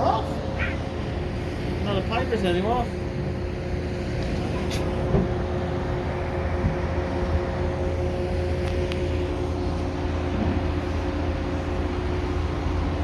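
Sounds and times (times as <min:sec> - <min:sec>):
ship machinery rumble and hum: 0:00.0 - 0:13.0.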